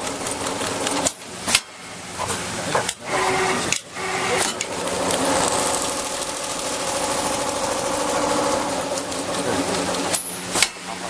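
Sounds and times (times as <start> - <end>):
sewing machine running: 0.0 - 1.6, 2.5 - 11.0.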